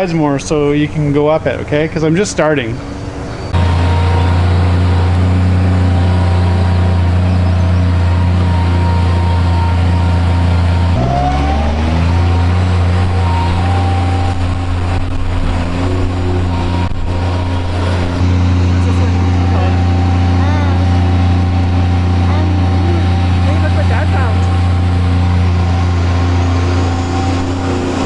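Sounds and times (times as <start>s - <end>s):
high machine whine: 0.0s - 28.0s
mini excavator engine drone: 0.0s - 28.0s.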